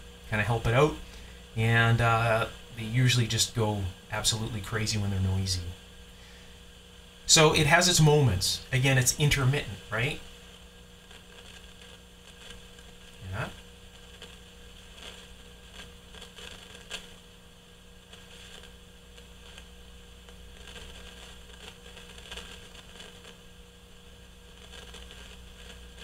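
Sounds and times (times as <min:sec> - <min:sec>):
crackles and pops: 0:00.0 - 0:26.0
speaker hiss and hum: 0:00.0 - 0:26.0.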